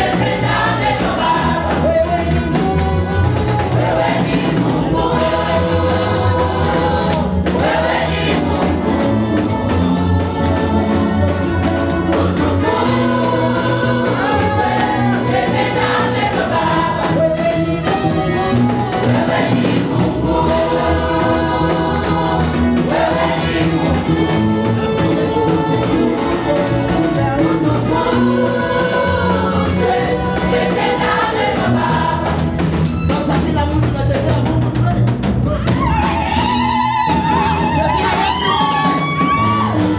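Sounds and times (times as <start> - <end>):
mixed choir singing gospel: 0.0 - 33.7, 35.7 - 39.9
instrumental bass backing: 0.0 - 39.9.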